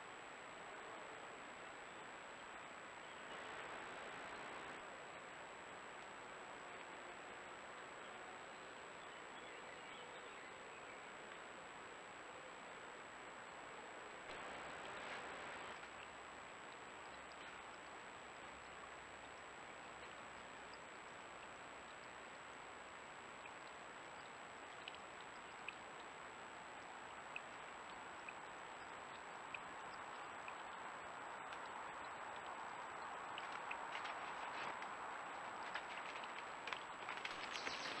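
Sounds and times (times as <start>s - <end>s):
faint hiss: 0.0s - 38.0s.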